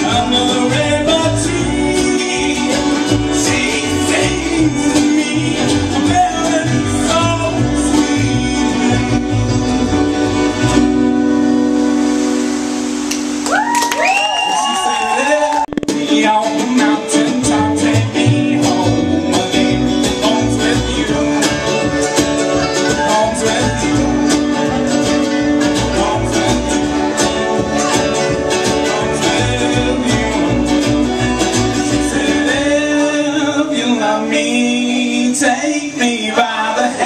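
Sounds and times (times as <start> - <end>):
person singing: 0.0 - 10.0, 15.1 - 37.0
accordion: 0.0 - 12.2, 15.8 - 35.3
banjo: 0.0 - 13.4, 15.7 - 37.0
mandolin: 0.0 - 13.4, 15.7 - 37.0
acoustic guitar: 0.0 - 37.0
bass line: 0.0 - 37.0.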